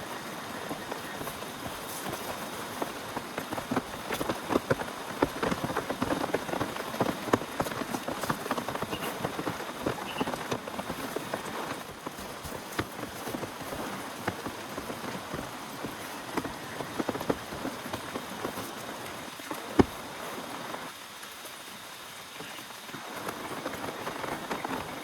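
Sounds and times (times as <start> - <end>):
heavy rain falling: 0.0 - 25.0
raindrops tapping hard surface: 0.7 - 25.0.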